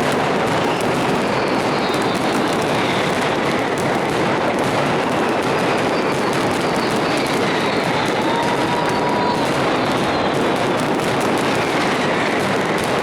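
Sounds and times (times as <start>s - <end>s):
fireworks crackling barrage: 0.0s - 13.0s.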